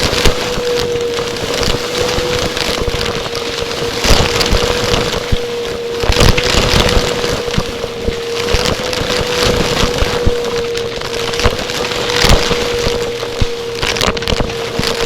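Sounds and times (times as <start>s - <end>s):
crackling and knocking: 0.0s - 15.0s
vacuum cleaner motor whine: 0.0s - 15.0s.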